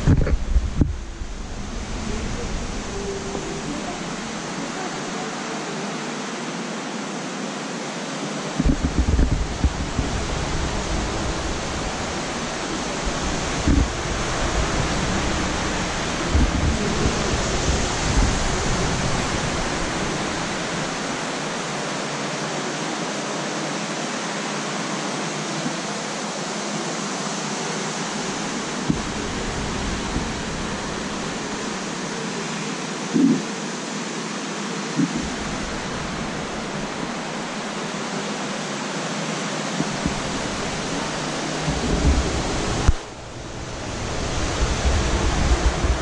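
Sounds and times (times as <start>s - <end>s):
ventilation air hiss: 0.0s - 46.0s.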